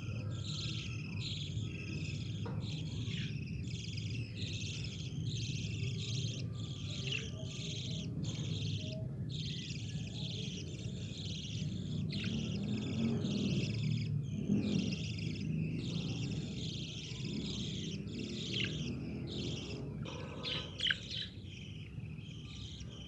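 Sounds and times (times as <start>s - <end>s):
budgerigars chattering: 0.0s - 23.0s.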